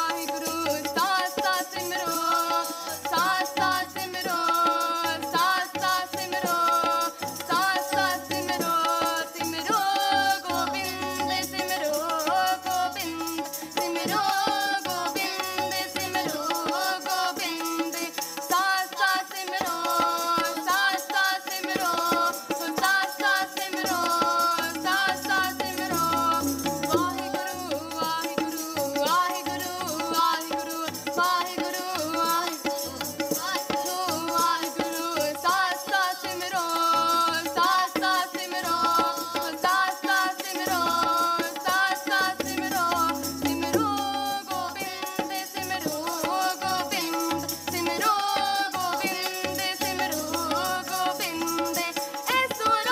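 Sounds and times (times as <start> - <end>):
girl singing: 0.0 - 52.9
harmonium: 0.0 - 52.9
tabla drums: 0.0 - 52.9.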